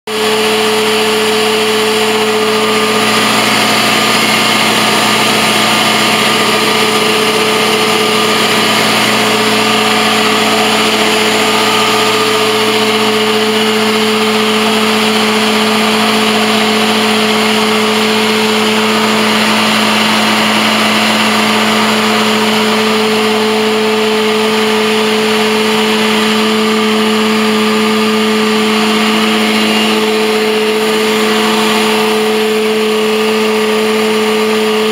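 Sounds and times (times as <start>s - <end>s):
carpet cleaning machine engine droning: 0.1s - 34.9s.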